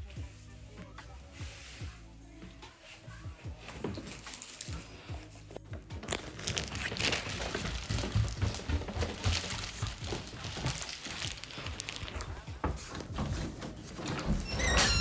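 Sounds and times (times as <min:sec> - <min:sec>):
soft footsteps thudding: 0:01.4 - 0:14.5.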